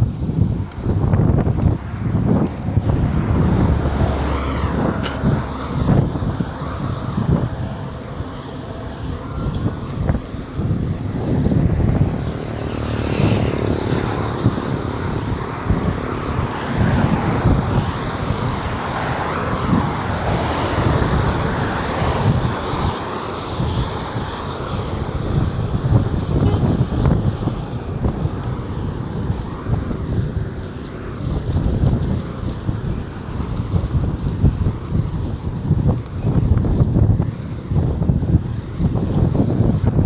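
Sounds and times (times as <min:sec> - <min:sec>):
highway traffic passing: 0:00.0 - 0:40.0
wind buffeting microphone: 0:00.0 - 0:40.0.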